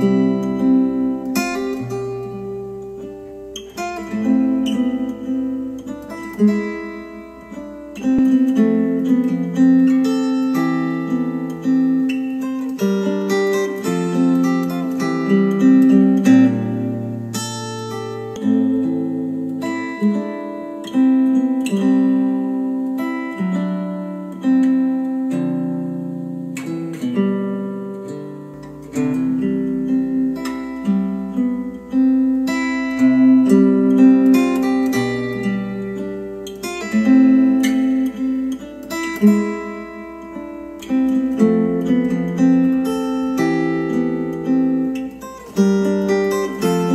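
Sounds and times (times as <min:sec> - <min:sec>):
acoustic guitar music from speakers: 0:00.0 - 0:46.9.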